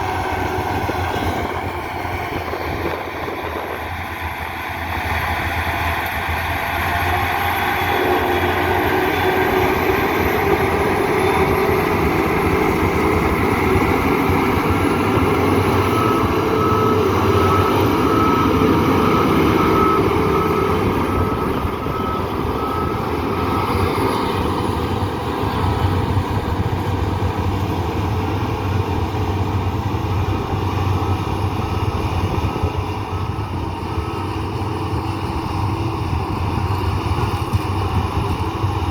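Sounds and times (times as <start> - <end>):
heavy machine engine running: 0.0 - 38.9
reversing alarm beeping: 0.0 - 38.9.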